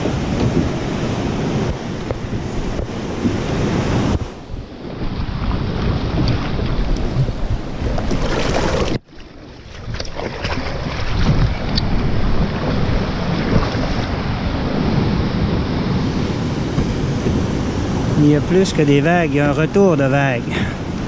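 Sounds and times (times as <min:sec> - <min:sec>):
waves breaking against rocks: 0:00.0 - 0:21.0
waves slapping against kayak: 0:00.0 - 0:21.0
wind buffeting microphone: 0:00.0 - 0:21.0.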